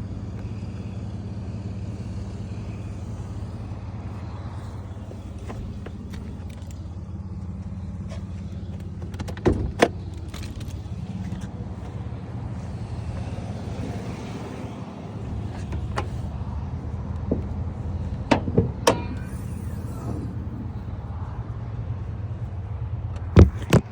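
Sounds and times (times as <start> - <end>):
engine running with low drone: 0.0 - 23.9.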